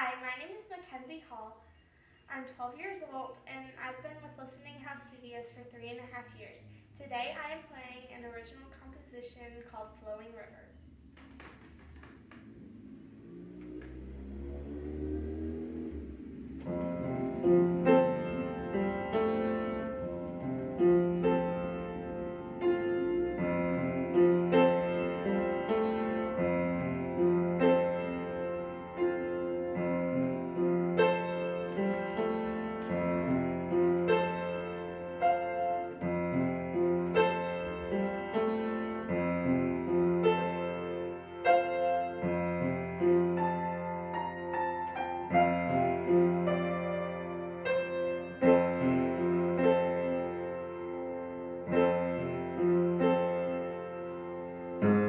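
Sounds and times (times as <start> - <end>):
upright piano: 10.8 - 55.0.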